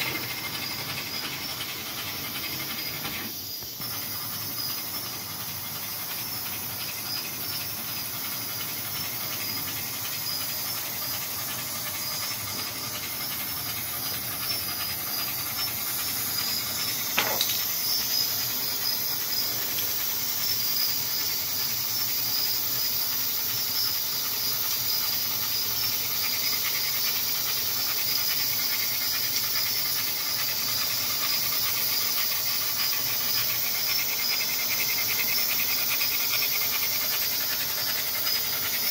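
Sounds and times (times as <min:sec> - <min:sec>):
model train steam hiss and chuffing: 0:00.0 - 0:38.9.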